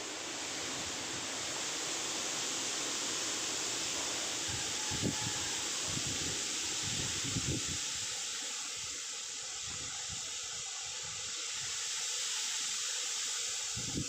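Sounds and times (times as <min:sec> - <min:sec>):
leaves rustling in wind: 0:00.0 - 0:14.0.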